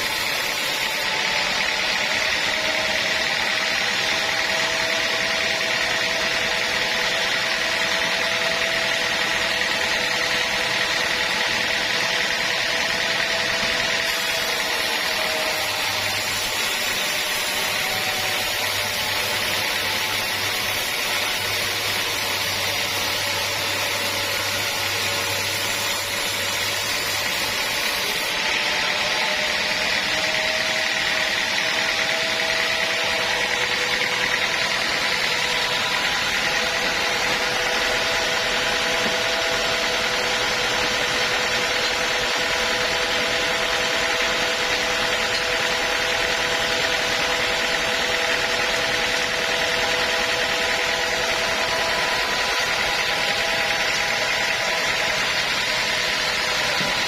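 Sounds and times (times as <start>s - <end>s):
saw whining through log: 0.0s - 57.0s.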